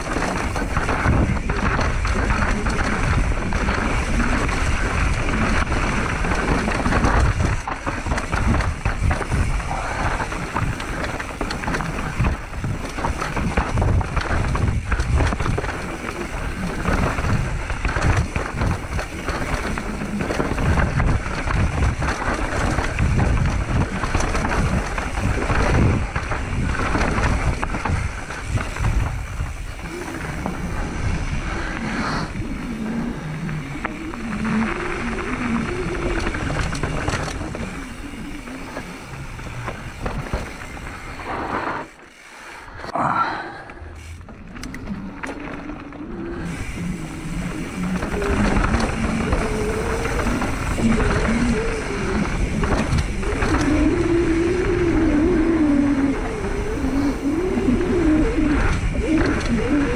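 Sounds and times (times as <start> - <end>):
mountain bike clattering over rough ground: 0.0 - 42.6, 43.9 - 59.9.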